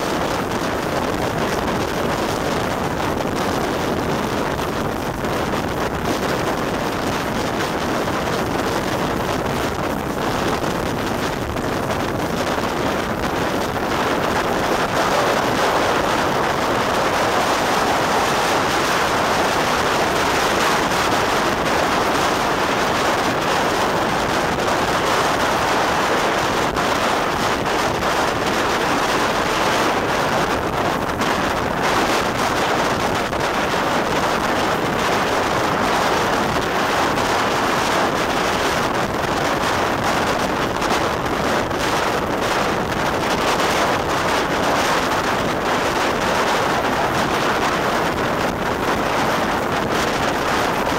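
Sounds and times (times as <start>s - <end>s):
train running at speed: 0.0s - 50.9s
wind buffeting microphone: 0.0s - 50.9s.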